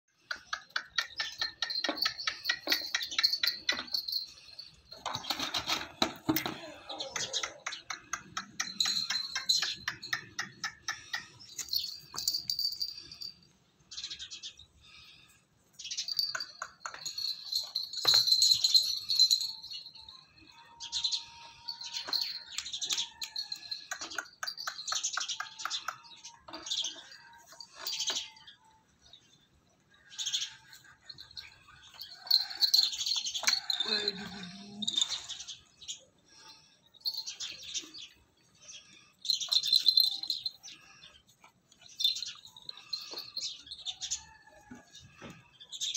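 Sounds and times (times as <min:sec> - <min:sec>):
small birds chirping: 0:00.1 - 0:45.9.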